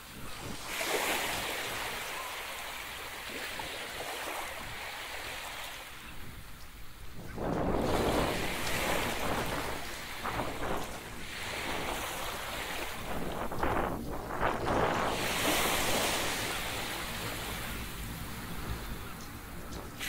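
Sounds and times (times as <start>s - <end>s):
waves washing on beach: 0.0s - 20.0s
wind on microphone: 0.0s - 20.0s.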